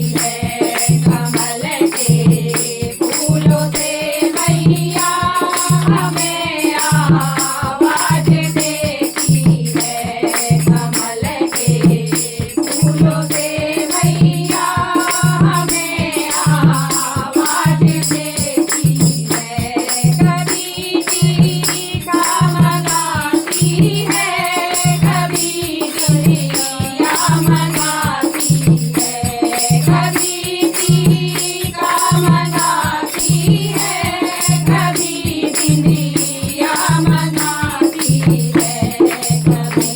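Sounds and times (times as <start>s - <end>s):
jingling percussion: 0.0s - 39.9s
voices singing devotional song: 0.0s - 39.9s.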